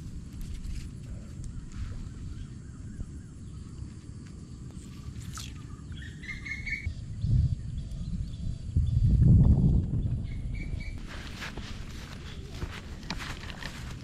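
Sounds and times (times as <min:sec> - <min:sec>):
birds chirping: 0:01.1 - 0:09.1, 0:10.1 - 0:14.0.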